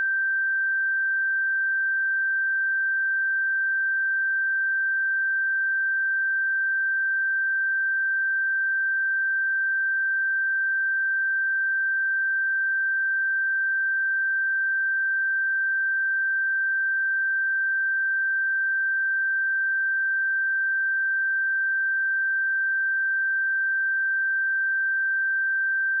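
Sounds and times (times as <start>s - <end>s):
sine test tone: 0.0s - 26.0s.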